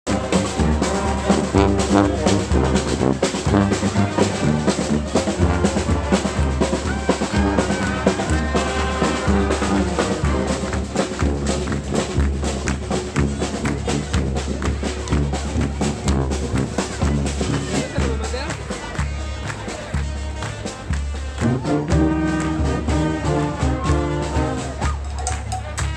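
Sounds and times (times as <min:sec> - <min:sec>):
brass band playing: 0:00.0 - 0:25.9
drums keeping a beat: 0:00.0 - 0:25.9.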